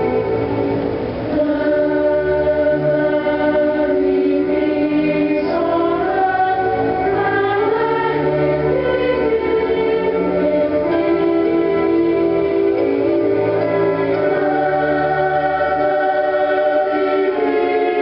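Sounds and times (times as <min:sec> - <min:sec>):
choir singing slow song: 0:00.0 - 0:18.0
instrumental accompaniment: 0:00.0 - 0:18.0.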